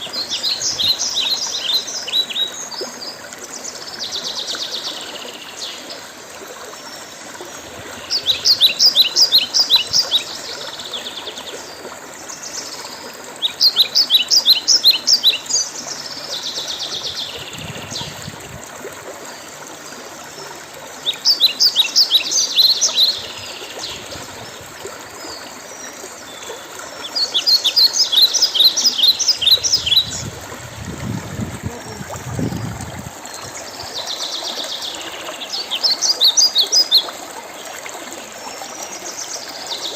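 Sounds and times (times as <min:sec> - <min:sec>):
running stream water: 0:00.0 - 0:39.9.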